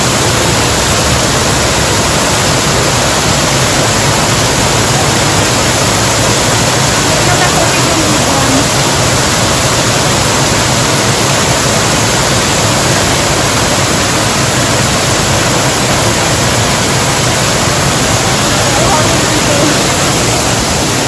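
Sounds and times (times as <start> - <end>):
waterfall pouring into pond: 0.0 - 21.0.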